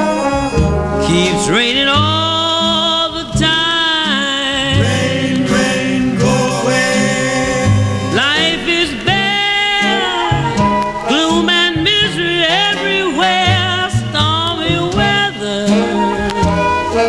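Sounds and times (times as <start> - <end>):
brass and orchestral accompaniment: 0.0 - 17.0
person singing long notes: 0.0 - 17.0.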